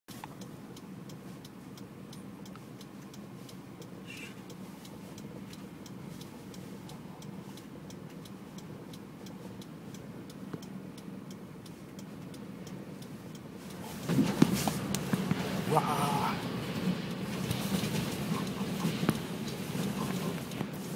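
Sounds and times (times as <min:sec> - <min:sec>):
car engine hum and road noise: 0:00.1 - 0:20.9
car indicator ticking: 0:00.1 - 0:20.9.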